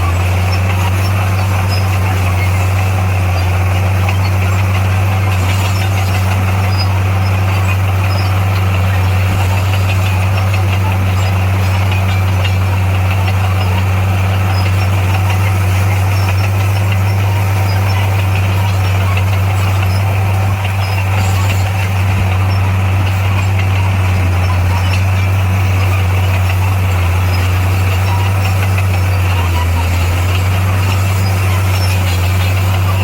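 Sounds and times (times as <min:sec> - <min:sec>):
heavy machinery engine droning: 0:00.0 - 0:33.0.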